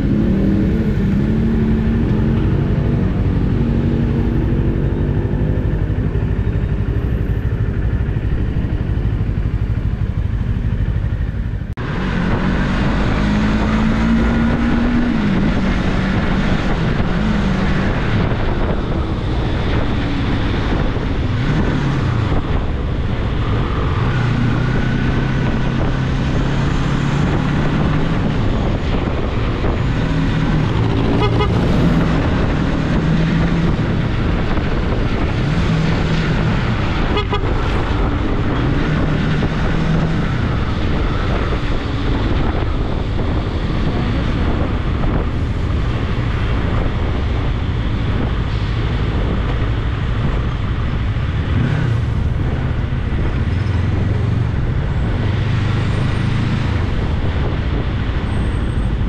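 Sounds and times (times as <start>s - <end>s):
motorcycle engine revving: 0.0s - 58.2s.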